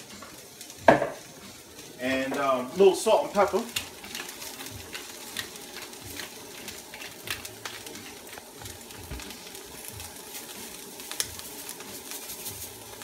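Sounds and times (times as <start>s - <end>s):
cabbage sizzling in a pot: 0.0s - 13.0s.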